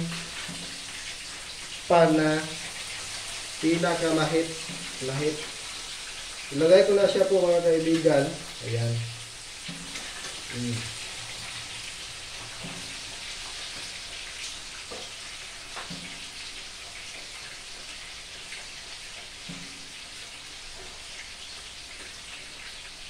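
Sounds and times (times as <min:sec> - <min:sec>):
chicken sizzling in hot oil: 0:00.0 - 0:23.0
oil popping and crackling: 0:00.0 - 0:23.0.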